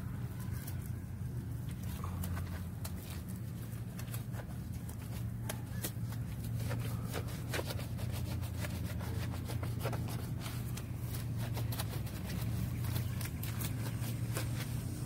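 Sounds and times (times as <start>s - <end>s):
steady low hum: 0.0s - 15.0s
wash mitt scrubbing wheel: 1.8s - 15.0s.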